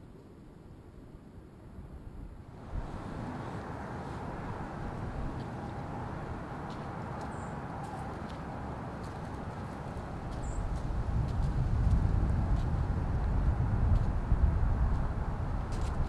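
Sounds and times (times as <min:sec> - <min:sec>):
low outdoor rumble: 0:01.0 - 0:16.0.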